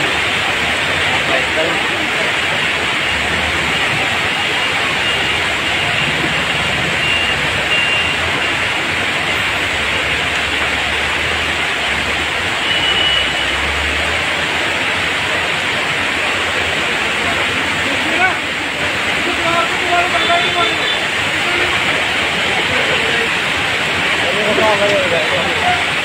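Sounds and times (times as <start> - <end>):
water rushing down steps: 0.0 - 26.0.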